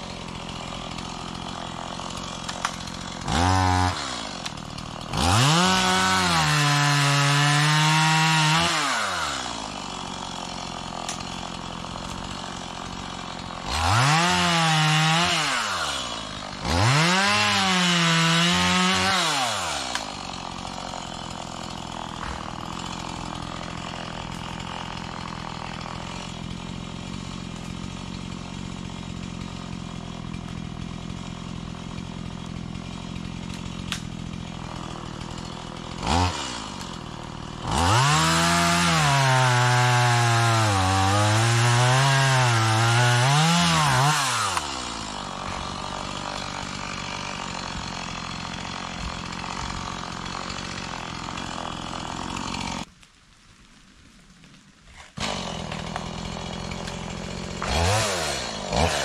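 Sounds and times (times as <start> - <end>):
chainsaw revving: 0.0 - 52.9, 54.9 - 59.0
chainsaw idling: 0.0 - 53.0, 54.9 - 59.0
chainsaw cutting wood: 0.0 - 59.0.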